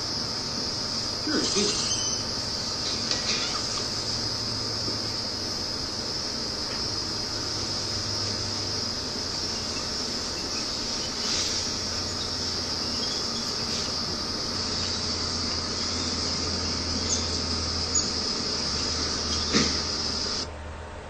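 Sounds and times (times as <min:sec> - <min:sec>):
insect chorus trilling: 0:00.0 - 0:20.5.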